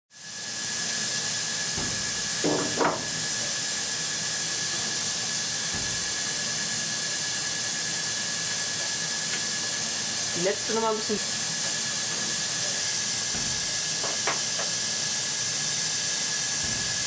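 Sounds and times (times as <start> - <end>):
milling machine whining: 0.3 - 17.0.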